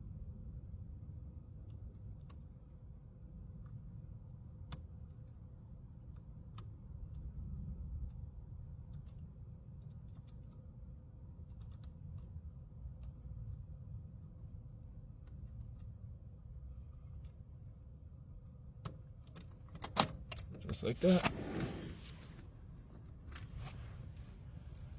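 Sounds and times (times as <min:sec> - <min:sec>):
low steady rumble: 0:00.0 - 0:24.9.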